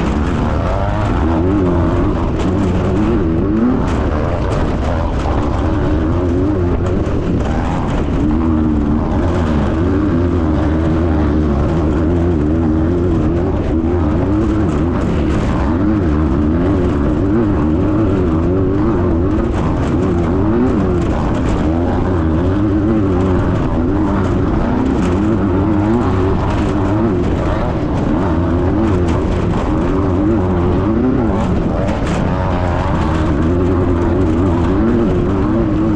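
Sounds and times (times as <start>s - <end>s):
buggy engine running hard: 0.0s - 35.9s.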